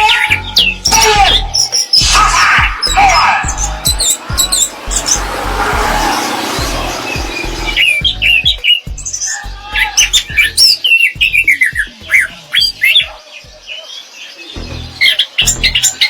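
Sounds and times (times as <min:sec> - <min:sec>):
thrush singing whistled notes: 0:00.0 - 0:16.0.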